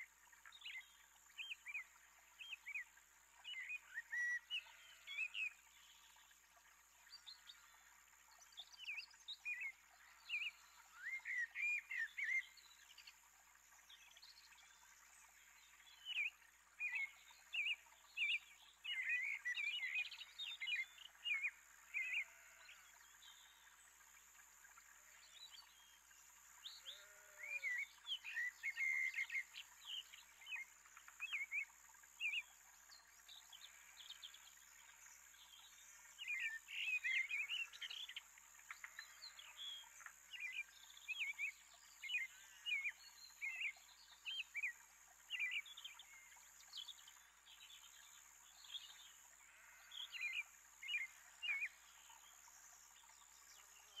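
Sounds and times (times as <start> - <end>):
faint high hiss: 0.0 - 54.0
songbirds chirping: 0.2 - 54.0.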